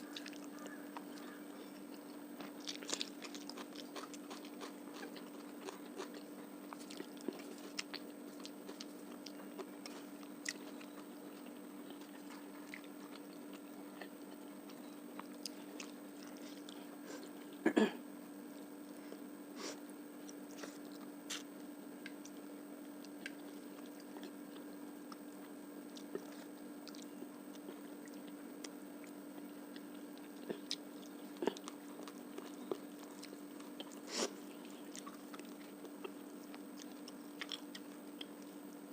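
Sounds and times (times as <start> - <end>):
chewing and biting food: 0.0 - 17.5, 20.2 - 38.7.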